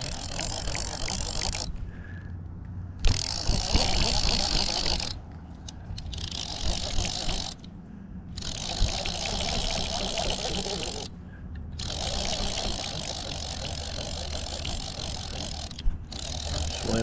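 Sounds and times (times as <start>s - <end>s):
fishing reel whirring: 0.0s - 2.1s, 3.0s - 17.0s.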